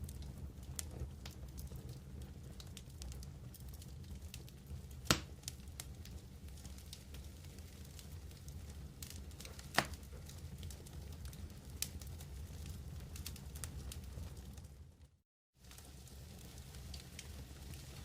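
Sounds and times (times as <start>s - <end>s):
campfire crackling: 0.0s - 15.0s, 15.6s - 18.0s
fire popping: 0.0s - 18.0s.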